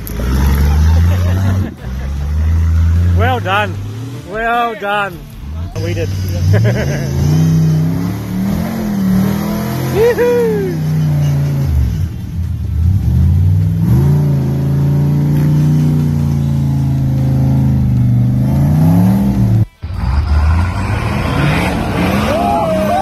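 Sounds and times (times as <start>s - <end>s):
engine revving through mud: 0.0s - 4.5s, 5.7s - 23.0s
another vehicle engine: 0.0s - 23.0s.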